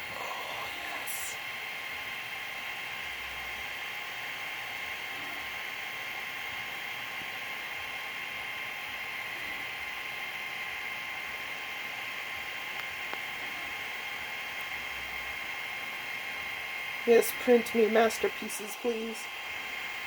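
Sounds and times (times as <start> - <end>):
fans whirring: 0.0 - 20.0.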